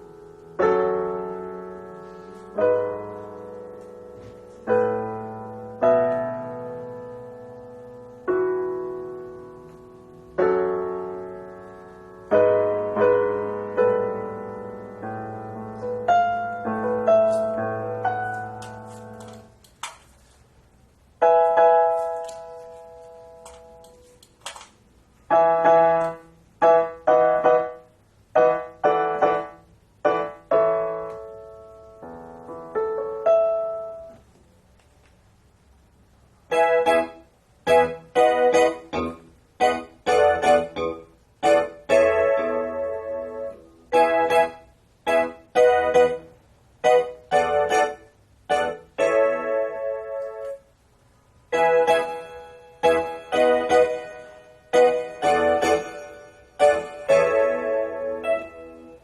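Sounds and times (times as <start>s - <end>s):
digital piano chords: 0.0s - 34.3s, 36.4s - 59.0s
soft piano run: 0.0s - 59.0s.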